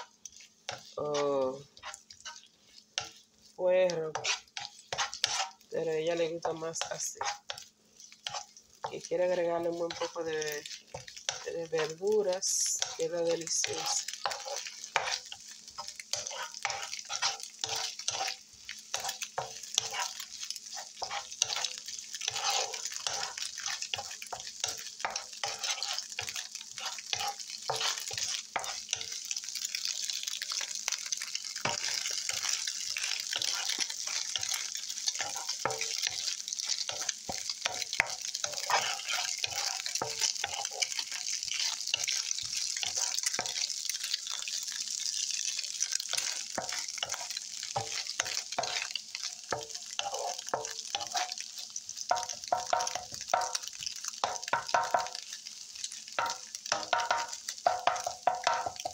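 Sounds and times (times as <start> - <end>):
spatula scraping pan: 0.0 - 30.6, 31.4 - 55.3, 56.2 - 58.9
eggs sizzling in frying pan: 0.0 - 58.9.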